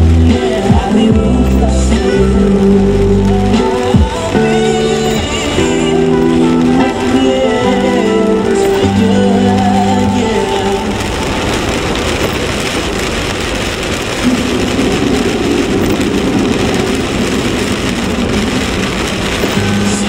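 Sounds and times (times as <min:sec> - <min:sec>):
rain on windshield: 0:00.0 - 0:20.0
tyres hissing on wet road: 0:00.0 - 0:20.0.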